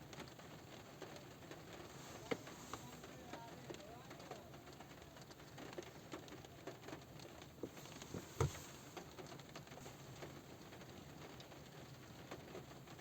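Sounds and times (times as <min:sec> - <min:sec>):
rain pattering on car roof: 0:00.0 - 0:13.0.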